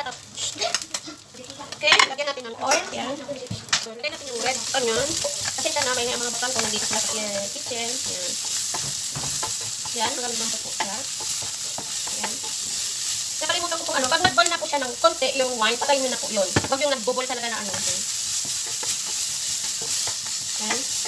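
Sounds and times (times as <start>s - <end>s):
pot sizzling on stove: 0.0s - 21.0s.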